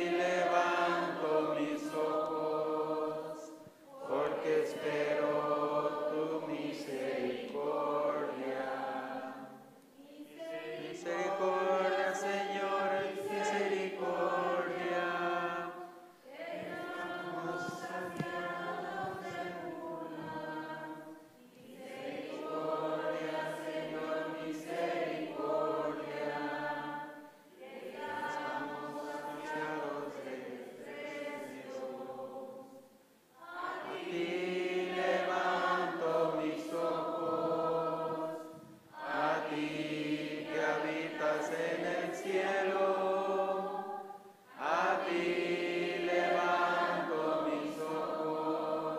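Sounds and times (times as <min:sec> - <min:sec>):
congregation singing a hymn: 0:00.0 - 0:48.9.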